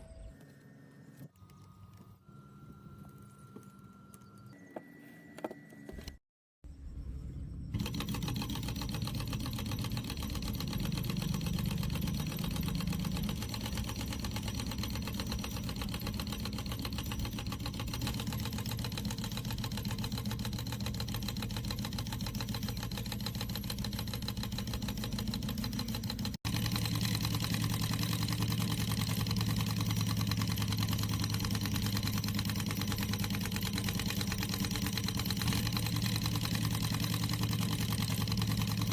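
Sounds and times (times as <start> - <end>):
diesel engine running: 6.9 - 38.9.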